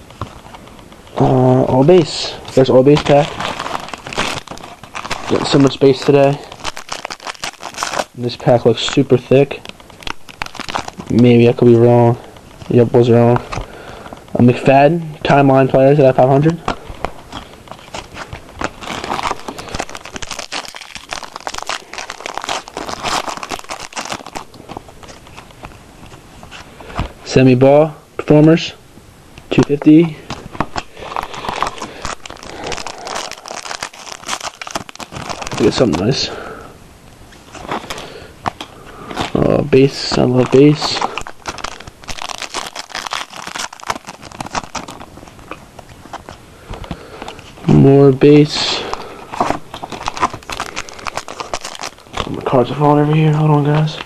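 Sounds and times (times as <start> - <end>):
foil wrapper crinkling: 0.0 - 28.7, 29.3 - 54.0.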